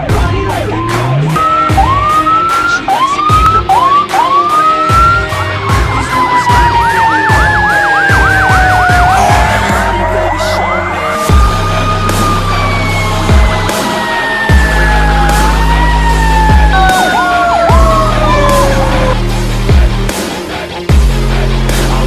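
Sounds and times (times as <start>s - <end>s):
mechanical siren whooping and wailing: 0.4s - 19.2s
electronic siren fast yelp: 0.9s - 19.2s.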